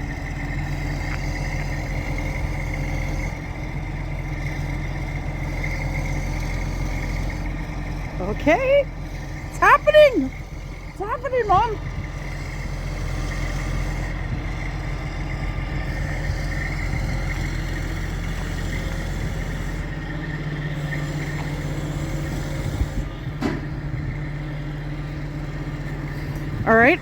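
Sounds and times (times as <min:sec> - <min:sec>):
crane diesel engine droning: 0:00.0 - 0:27.0.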